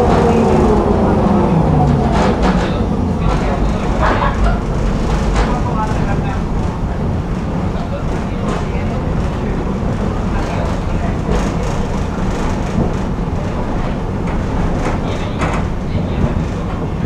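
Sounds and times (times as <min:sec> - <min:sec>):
tram wheels rumbling on rails: 0:00.0 - 0:17.0
sharp rattles and clacks: 0:02.2 - 0:16.8.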